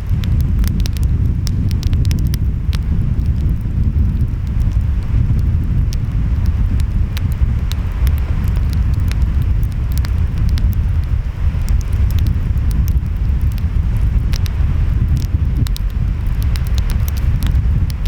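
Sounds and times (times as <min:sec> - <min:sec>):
wind: 0:00.0 - 0:18.0
wood fire crackling and popping: 0:00.0 - 0:18.0.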